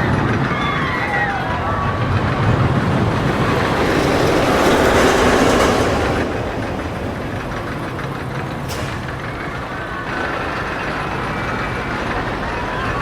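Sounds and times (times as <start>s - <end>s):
roller coaster wheels clattering: 0.0s - 13.0s.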